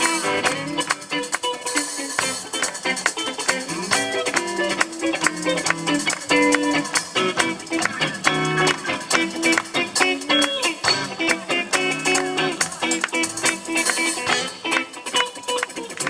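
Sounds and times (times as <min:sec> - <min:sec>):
crisp percussion ticks: 0:00.0 - 0:16.0
drum kit: 0:00.0 - 0:16.0
electric bass guitar: 0:00.0 - 0:16.0.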